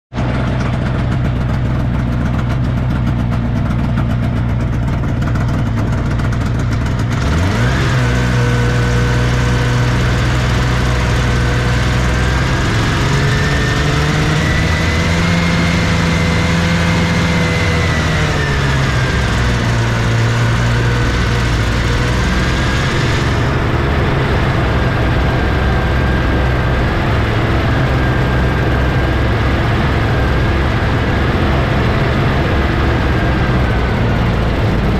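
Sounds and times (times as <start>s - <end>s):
snowmobile engine idling and revving: 0.1s - 34.9s.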